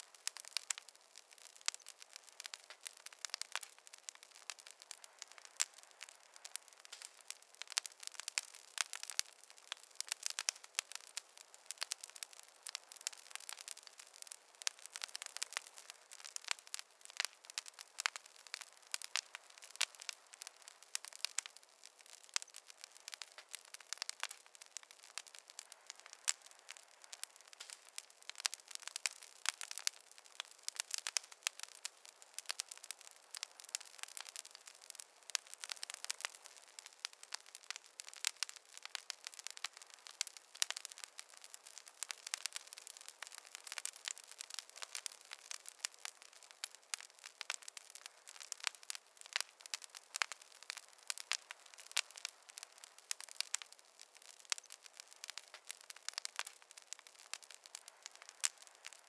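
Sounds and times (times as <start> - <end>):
faint hiss: 0.0 - 59.0
wood fire crackling and popping: 0.0 - 59.0.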